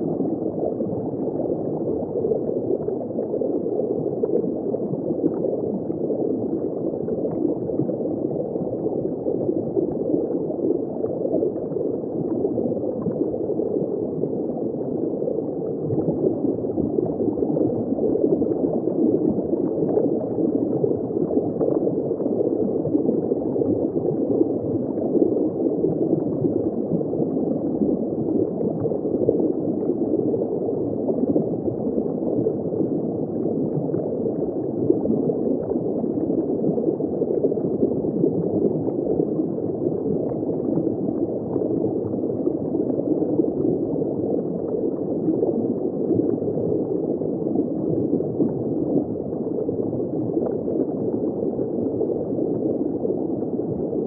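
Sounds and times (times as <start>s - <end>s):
muffled underwater bubbling: 0.0s - 54.0s.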